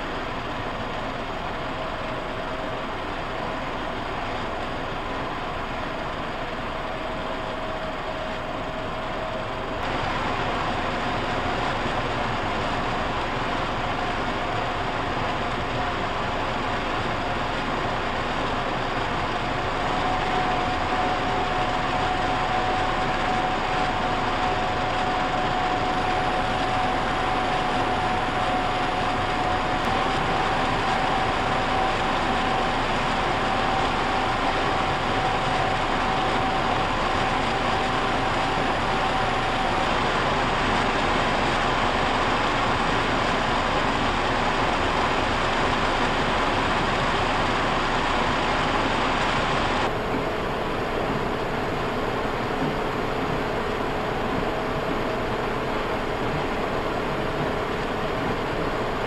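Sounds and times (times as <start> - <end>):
air conditioner fan blowing air: 0.0 - 59.0
thin steady whine: 0.0 - 59.0.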